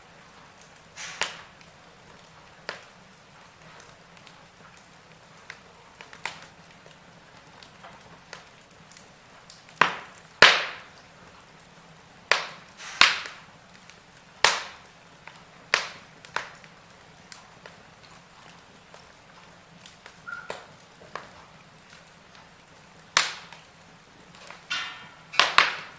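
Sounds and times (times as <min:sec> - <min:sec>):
faint steady hiss: 0:00.0 - 0:25.9
wood fire crackling and popping: 0:00.0 - 0:25.9.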